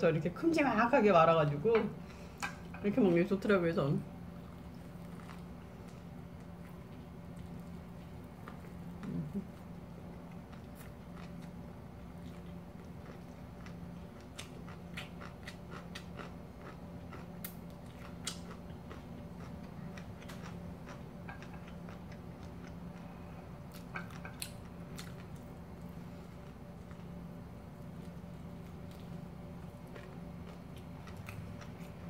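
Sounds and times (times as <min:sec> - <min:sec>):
steady low hum: 0:00.0 - 0:32.0
person chewing: 0:04.4 - 0:32.0.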